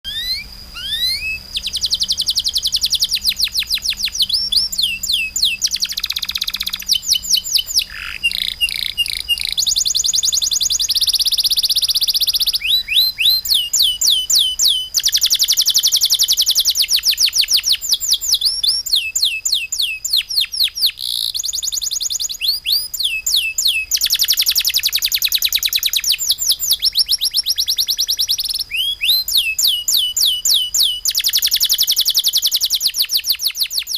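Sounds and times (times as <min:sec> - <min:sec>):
songbird singing fast runs: 0:00.0 - 0:33.9.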